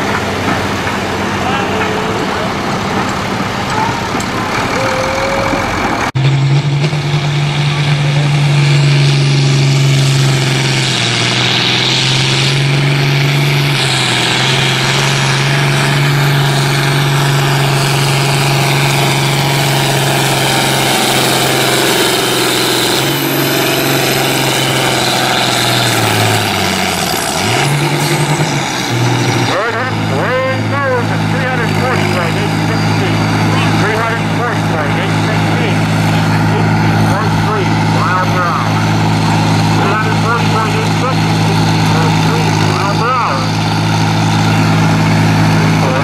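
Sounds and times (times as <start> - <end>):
tractor engine at full throttle: 0.0 - 46.0
tractor engine at low revs: 0.0 - 46.0.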